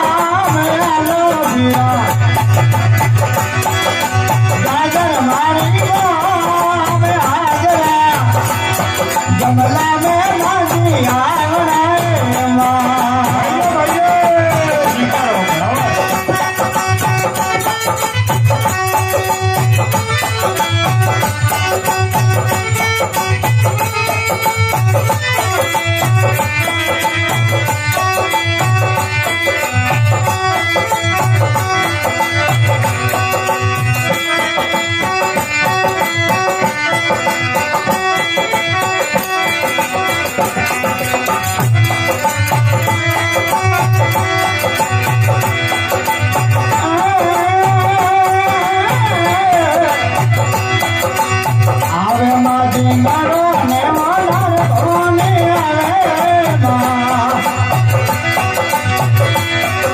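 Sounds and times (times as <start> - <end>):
hand drum beat: 0.0 - 59.9.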